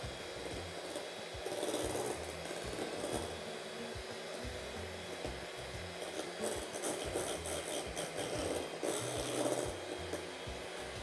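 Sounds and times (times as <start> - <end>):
background music: 0.0 - 11.0
electric hand mixer running: 0.0 - 11.0.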